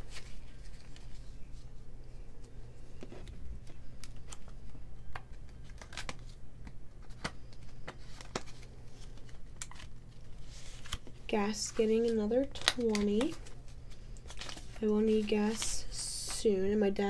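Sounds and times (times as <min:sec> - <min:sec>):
plastic envelope crinkling: 0:00.0 - 0:01.8, 0:02.4 - 0:16.4
banknotes rustling: 0:00.0 - 0:17.0
faint low hum: 0:00.0 - 0:17.0.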